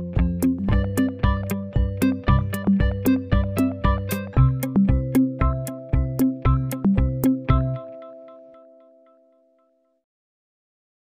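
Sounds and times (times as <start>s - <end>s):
background music with ticking beat: 0.0s - 8.9s.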